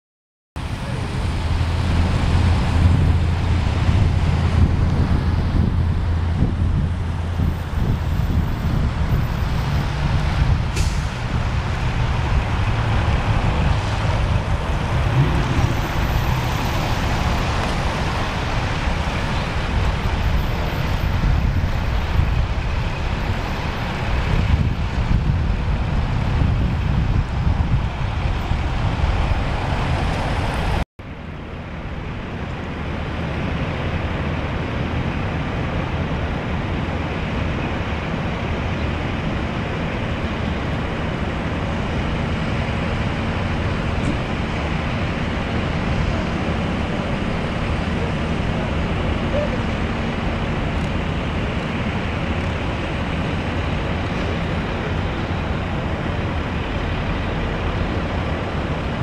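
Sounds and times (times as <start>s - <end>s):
diesel truck engine running: 0.6s - 59.0s
outdoor noise: 0.6s - 59.0s.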